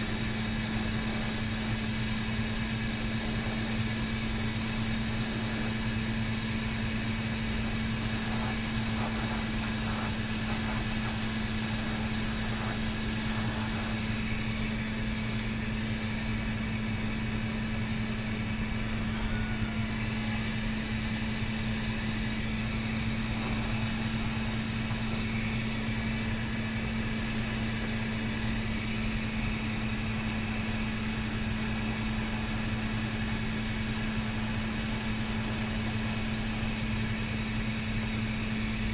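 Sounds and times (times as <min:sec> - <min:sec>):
low mechanical hum: 0:00.0 - 0:38.9
torch hissing: 0:00.0 - 0:38.9.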